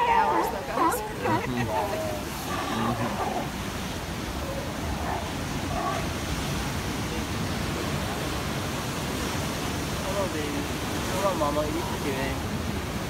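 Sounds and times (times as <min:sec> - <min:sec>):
surf washing over rocky shore: 0:00.0 - 0:13.0.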